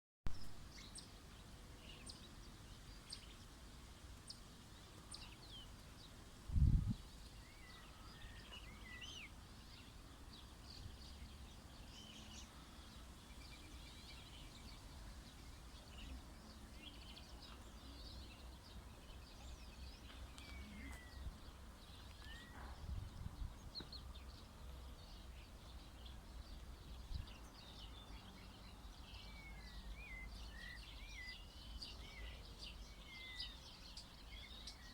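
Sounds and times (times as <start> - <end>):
small birds chirping and singing: 0.3 - 34.9.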